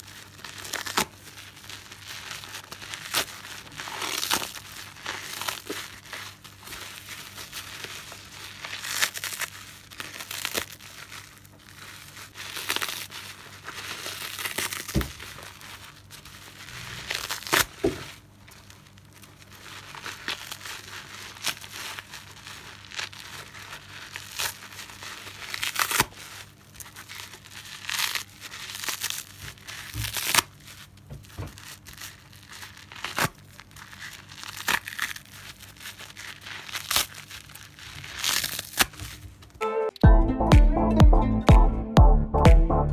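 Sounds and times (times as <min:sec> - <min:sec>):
wet sponge rustling: 0:00.0 - 0:39.5.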